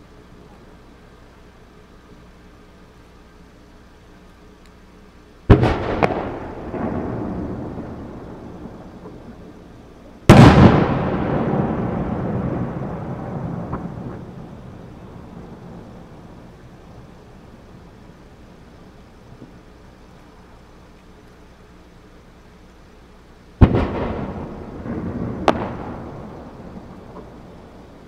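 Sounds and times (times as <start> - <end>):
firework crack: 1.6 - 28.0.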